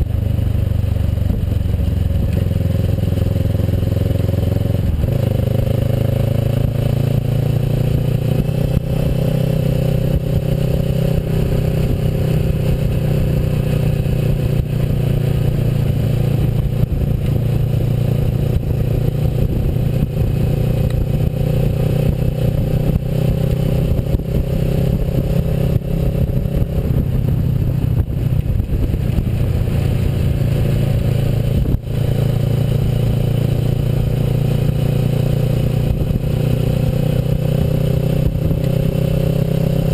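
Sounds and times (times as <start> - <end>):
motorcycle engine running: 0.0 - 39.9
rough clattering road noise: 0.0 - 39.9.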